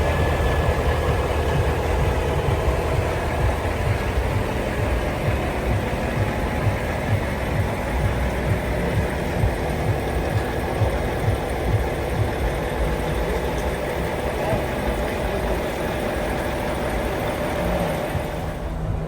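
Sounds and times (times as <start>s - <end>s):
diesel truck engine chugging: 0.0s - 19.0s.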